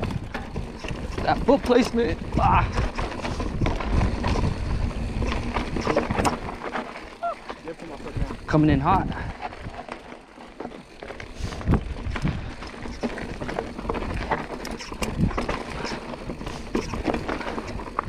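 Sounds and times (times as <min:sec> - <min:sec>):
bike knocking over rocks: 0:00.0 - 0:18.0
bike tyres crunching over stones: 0:00.0 - 0:18.0.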